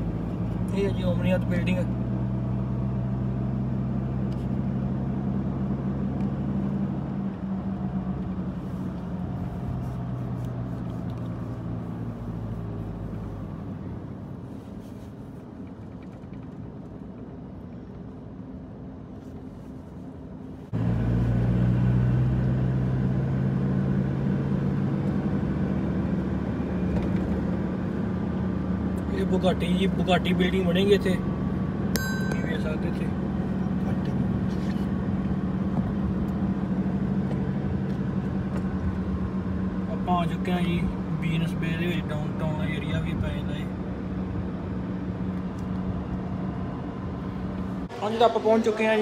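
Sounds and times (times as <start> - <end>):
car engine hum: 0.0 - 49.0
road noise: 0.0 - 49.0.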